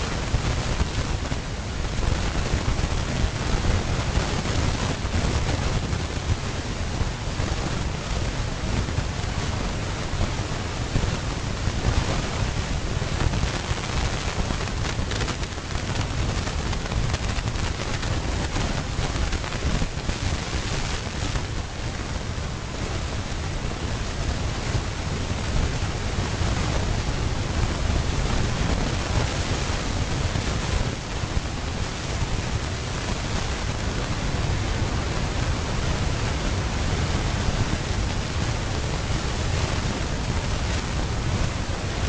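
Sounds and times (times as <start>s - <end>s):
wind noise on microphone: 0.0s - 42.0s.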